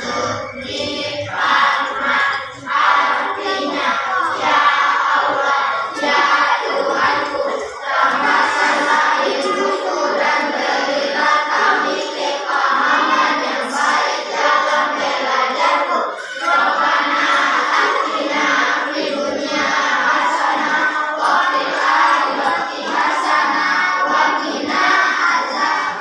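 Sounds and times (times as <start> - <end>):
children chanting in unison: 0.0 - 26.0.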